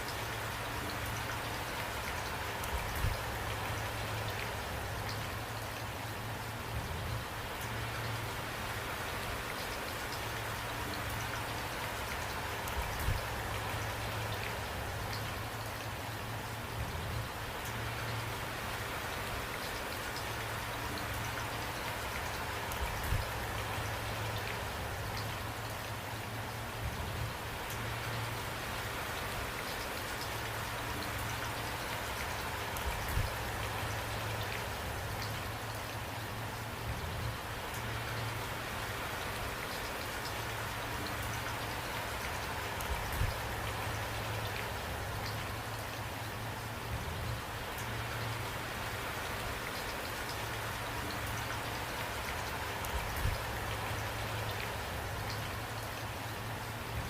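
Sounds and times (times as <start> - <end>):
low steady rumble: 0.0 - 9.5, 10.1 - 57.0
rain drops ticking: 0.0 - 57.0.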